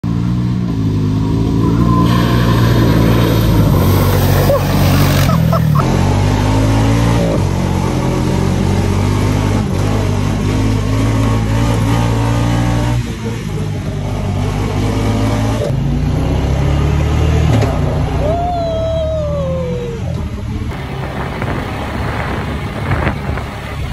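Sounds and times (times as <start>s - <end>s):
buggy engine revving: 0.0s - 23.9s.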